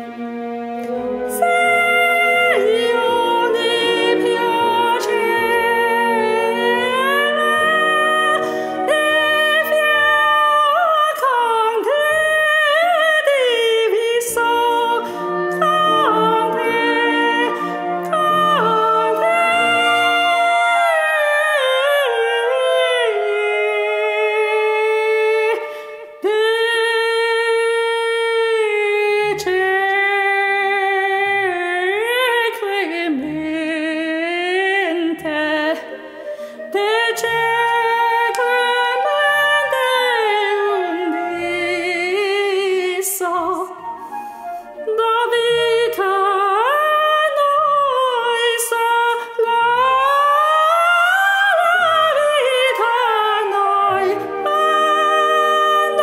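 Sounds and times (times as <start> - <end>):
operatic soprano singing: 0.8 - 56.0.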